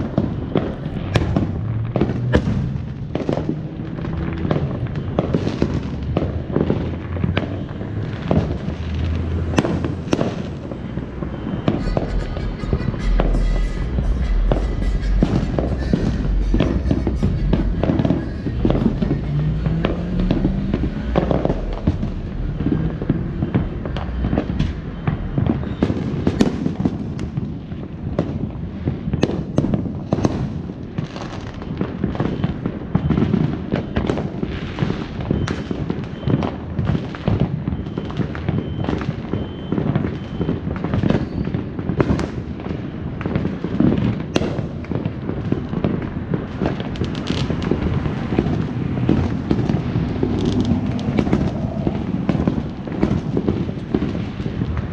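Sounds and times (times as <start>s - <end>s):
fireworks popping and banging: 0.0s - 54.9s.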